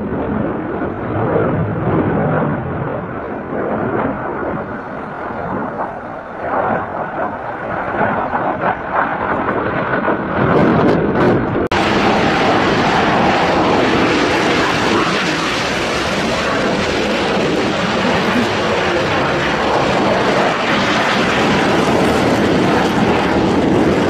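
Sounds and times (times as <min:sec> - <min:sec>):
fighter jet engine roaring: 0:00.0 - 0:24.0.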